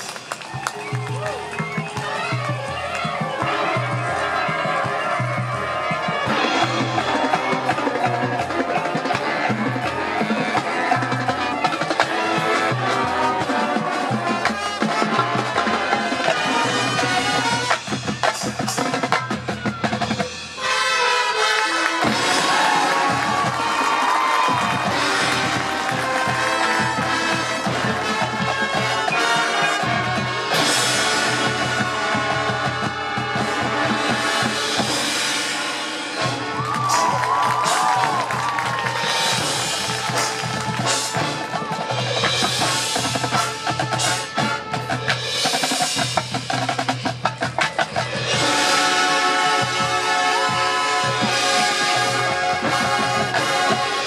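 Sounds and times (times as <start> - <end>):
marching band playing: 0.0 - 54.0.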